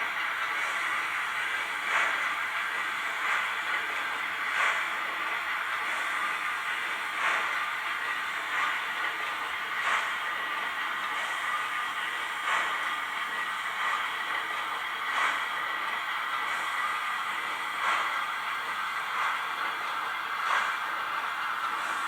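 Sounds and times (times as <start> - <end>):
steam hiss: 0.0 - 22.0
steam locomotive chuffing: 0.0 - 22.0.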